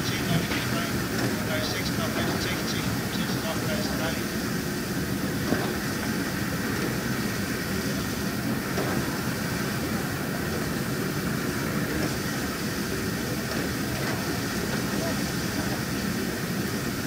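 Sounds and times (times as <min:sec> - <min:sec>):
steam locomotive rumbling hiss: 0:00.0 - 0:17.0.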